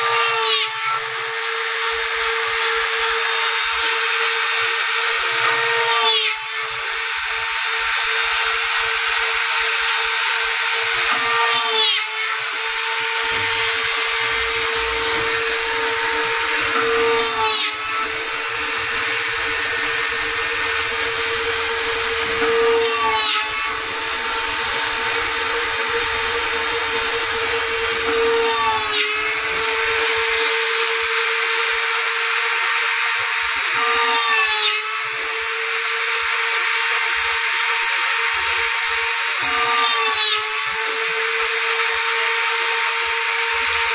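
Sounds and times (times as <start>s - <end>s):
router spindle whining: 0.0s - 43.9s.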